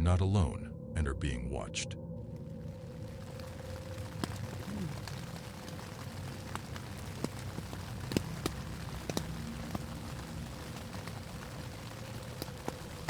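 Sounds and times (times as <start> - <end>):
faint steady hum: 0.0 - 13.0
steady low rumble: 0.0 - 13.0
raindrops tapping on tent fabric: 2.2 - 13.0.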